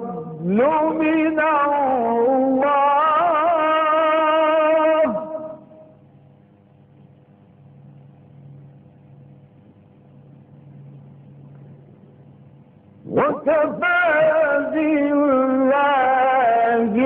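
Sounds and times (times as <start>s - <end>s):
faint low hum and hiss: 0.0s - 17.0s.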